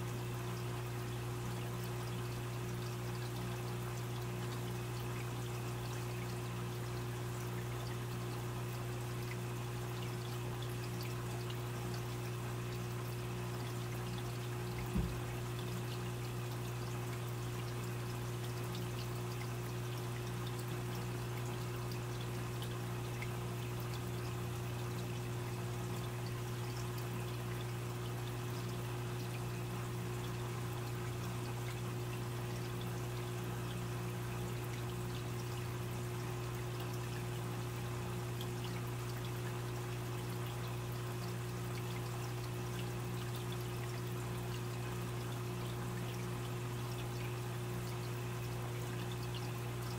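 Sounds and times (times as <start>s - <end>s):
filter low hum: 0.0s - 49.9s
water trickling and splashing: 0.0s - 49.9s.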